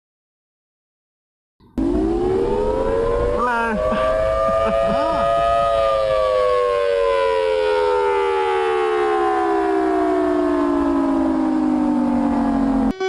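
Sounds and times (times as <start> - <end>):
civil defence siren winding down: 1.6 - 13.0.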